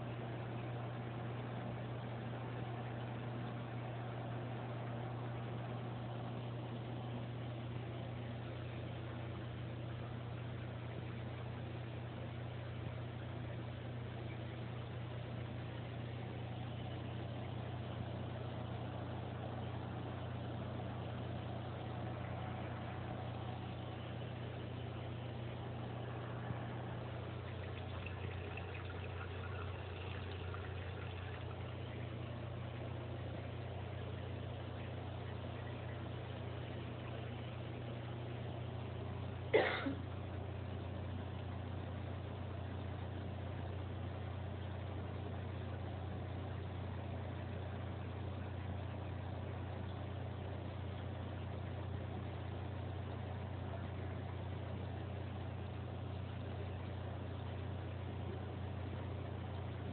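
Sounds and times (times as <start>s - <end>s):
aquarium pump humming: 0.0s - 59.9s.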